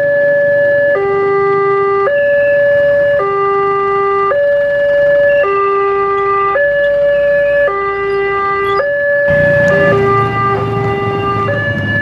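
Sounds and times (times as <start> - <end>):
two-tone crossing warning alarm: 0.0 - 12.0.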